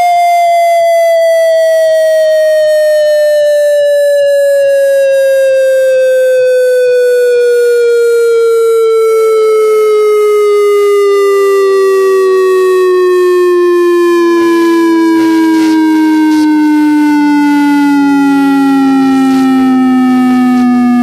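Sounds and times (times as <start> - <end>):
electronic test tone sweeping downward: 0.0 - 21.0.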